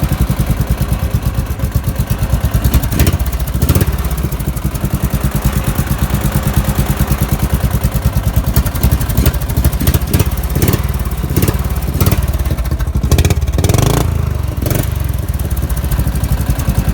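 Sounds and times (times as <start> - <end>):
mower engine popping exhaust: 0.0 - 16.9.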